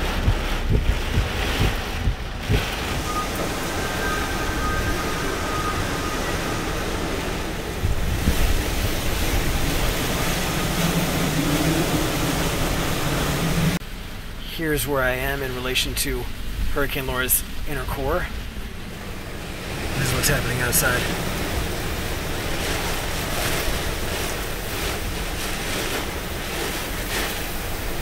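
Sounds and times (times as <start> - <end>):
wind gusts buffeting microphone: 0.0 - 13.8, 16.3 - 28.0
heavy rain: 0.0 - 28.0
strong winds: 0.0 - 28.0.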